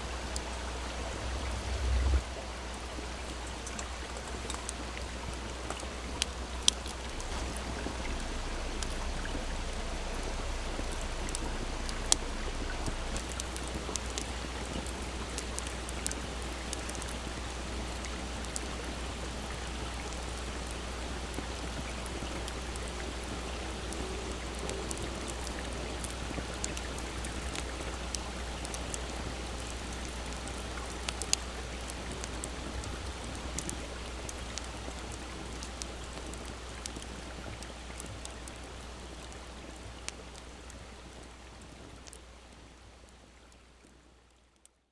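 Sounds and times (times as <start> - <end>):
campfire crackling: 0.0 - 43.2
babbling stream: 0.0 - 44.4.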